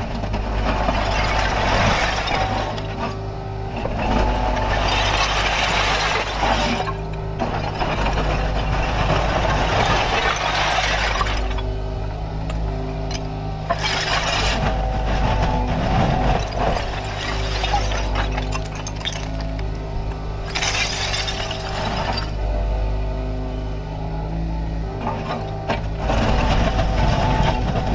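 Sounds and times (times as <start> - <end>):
diesel engine running: 0.0 - 27.9
hydraulic working noise: 0.0 - 27.9.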